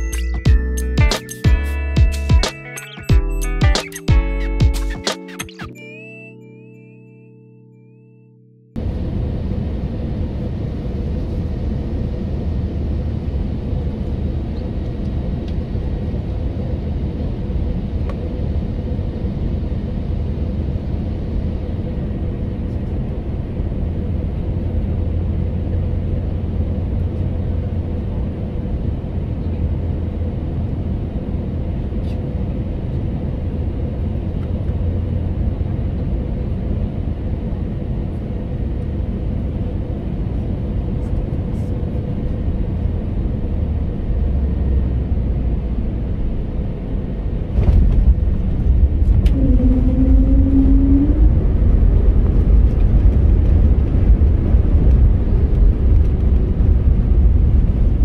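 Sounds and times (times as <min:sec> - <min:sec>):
airliner cabin engine rumble: 0:08.8 - 0:58.0.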